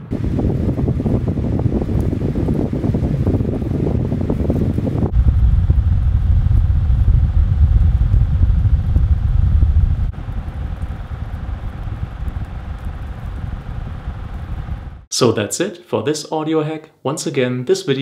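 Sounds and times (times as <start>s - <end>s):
wind rumble on microphone: 0.0s - 15.1s.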